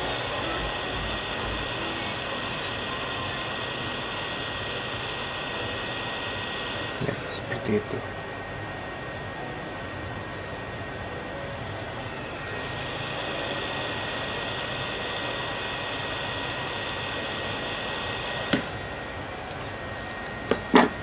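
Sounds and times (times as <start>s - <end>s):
hot air station hissing: 0.0s - 21.0s.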